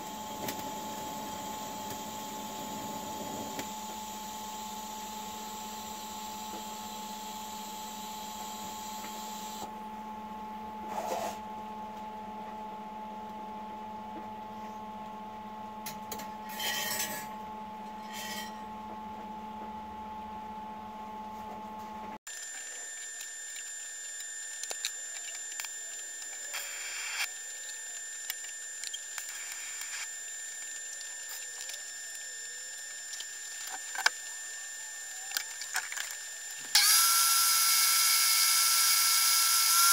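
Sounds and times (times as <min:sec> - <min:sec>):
welder electrical hum: 0:00.0 - 0:39.9.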